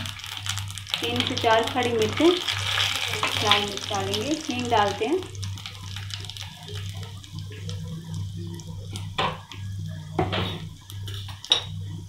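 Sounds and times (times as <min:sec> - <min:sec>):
spices sizzling in hot oil: 0:00.0 - 0:12.0
steady low hum: 0:00.0 - 0:12.0.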